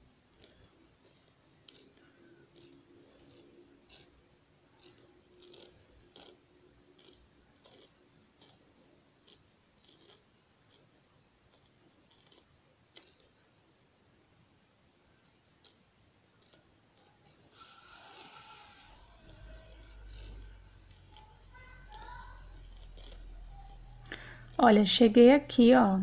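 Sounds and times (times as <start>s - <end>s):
crochet hook clicks and scratches: 0.0s - 13.4s, 15.2s - 24.6s.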